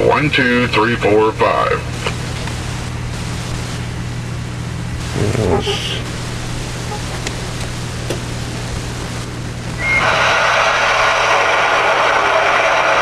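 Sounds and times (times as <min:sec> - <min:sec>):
radio static hiss: 0:00.0 - 0:13.0
low hum: 0:01.8 - 0:13.0.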